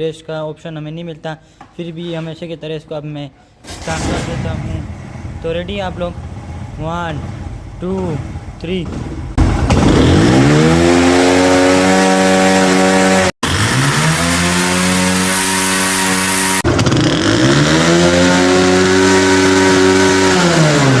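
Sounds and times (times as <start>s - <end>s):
motorcycle engine revving: 3.7s - 21.0s.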